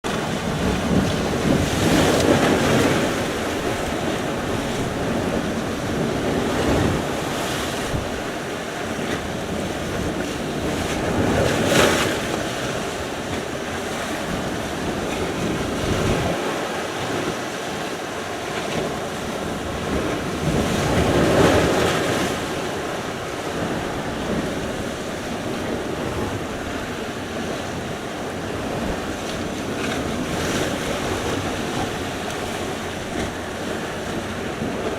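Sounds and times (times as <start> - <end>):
sea waves breaking: 0.0 - 34.9.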